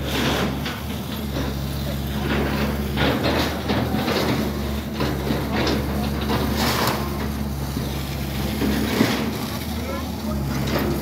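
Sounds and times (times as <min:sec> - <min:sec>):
clattering rubble: 0:00.0 - 0:11.0
excavator diesel engine running: 0:00.0 - 0:11.0.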